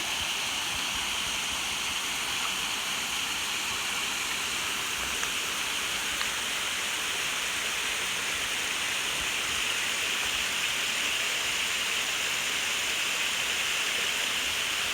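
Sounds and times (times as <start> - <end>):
running water rushing: 0.0 - 14.9.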